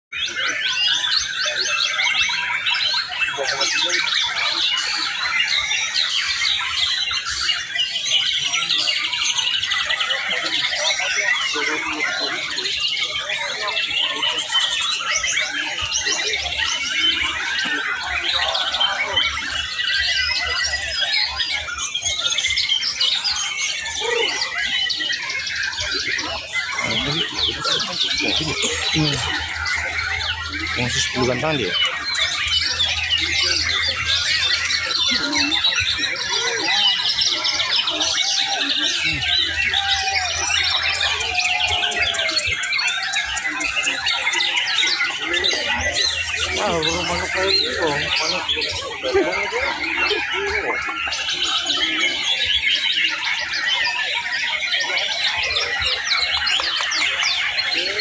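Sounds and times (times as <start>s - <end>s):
birds singing in chorus: 0.1s - 58.0s.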